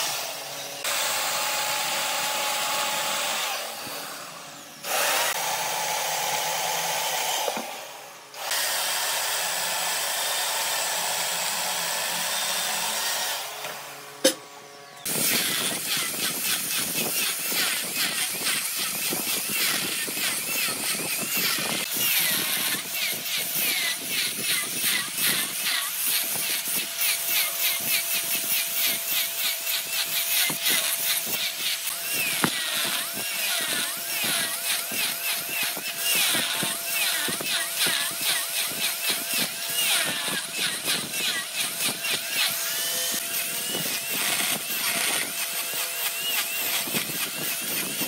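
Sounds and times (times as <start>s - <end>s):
woodworking power tool running: 0.0s - 48.0s.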